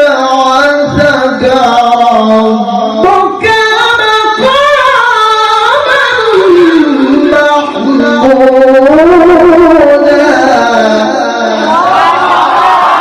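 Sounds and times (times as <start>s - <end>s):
man reciting in melodic chant: 0.0s - 11.9s.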